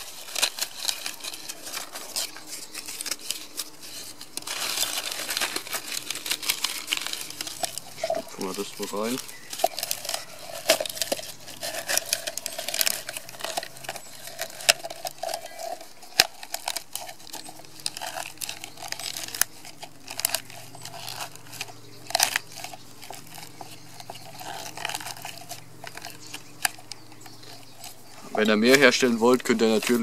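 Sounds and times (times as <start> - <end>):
birch bark crackling: 0.0 - 30.0.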